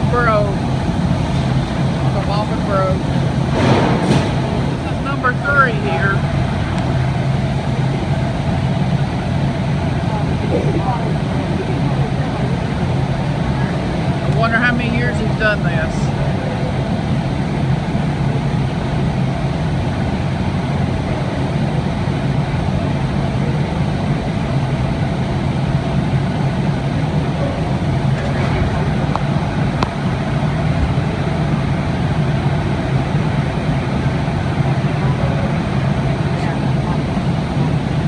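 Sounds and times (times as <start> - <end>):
furnaces and blowers roaring: 0.0 - 38.0.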